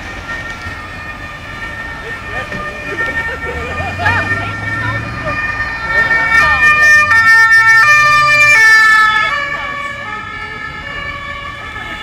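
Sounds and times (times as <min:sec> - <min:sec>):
two-tone emergency vehicle horn: 0:00.0 - 0:12.0
vehicle engine rumble: 0:00.0 - 0:12.0.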